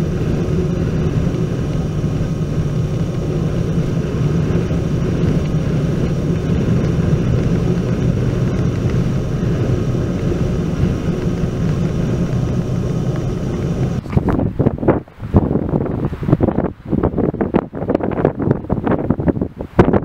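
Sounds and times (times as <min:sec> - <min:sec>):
vehicle engine and tyre drone: 0:00.0 - 0:20.0.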